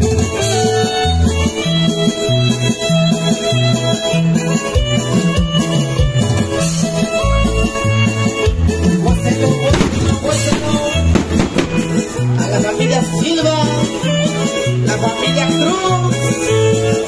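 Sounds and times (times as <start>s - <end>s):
live band playing latin dance music: 0.0s - 17.0s.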